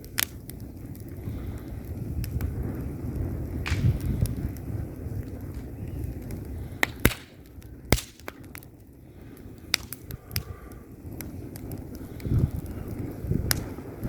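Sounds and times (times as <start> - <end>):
fire crackling and popping: 0.0 - 14.0
rush of fire flames: 0.0 - 14.0.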